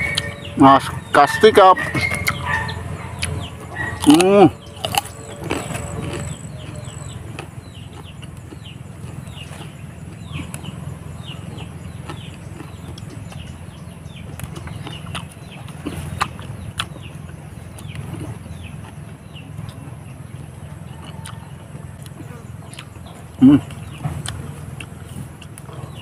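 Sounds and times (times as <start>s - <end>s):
birds chirping: 0.0s - 26.0s
chewing and crunching leaves: 0.0s - 26.0s
steady low hum: 0.0s - 26.0s.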